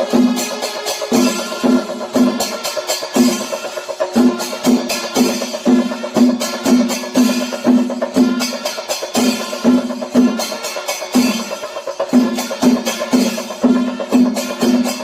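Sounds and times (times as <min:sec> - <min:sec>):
clashing cymbals: 0:00.0 - 0:15.0.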